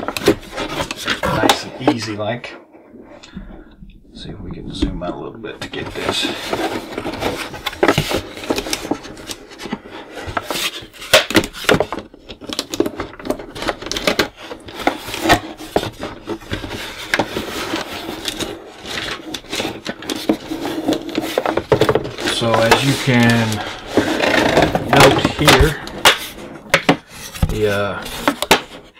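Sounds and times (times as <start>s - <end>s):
cardboard rubbing and scraping: 0.0s - 2.1s, 5.7s - 28.9s.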